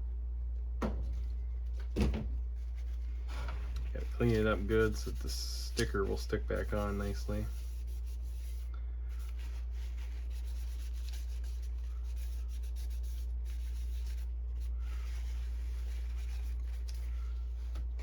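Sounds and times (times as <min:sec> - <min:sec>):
steady low hum: 0:00.0 - 0:18.0
paper towel rubbing plastic: 0:02.5 - 0:18.0.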